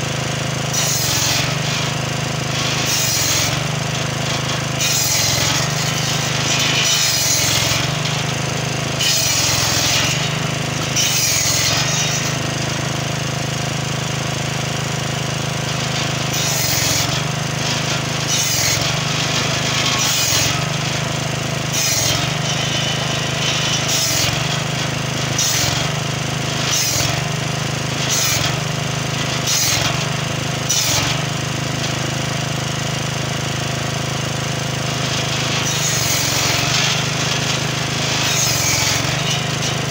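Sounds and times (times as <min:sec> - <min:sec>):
saw blade rasping through logs: 0:00.0 - 0:39.9
small petrol engine running: 0:00.0 - 0:39.9.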